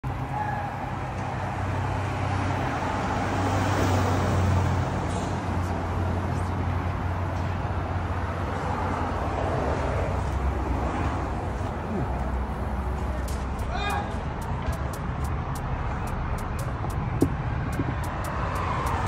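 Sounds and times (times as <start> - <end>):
road noise: 0.0 - 19.0
vehicle hum and rumble: 0.0 - 19.0.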